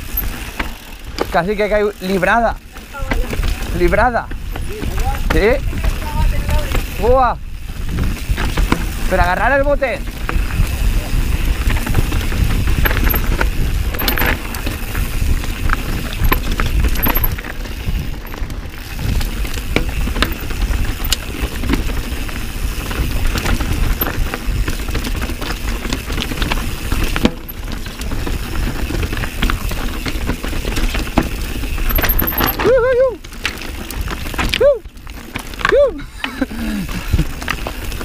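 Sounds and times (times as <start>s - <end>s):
bike chain and frame rattling: 0.0s - 38.0s
bike tyres rumbling over dirt: 0.0s - 38.0s.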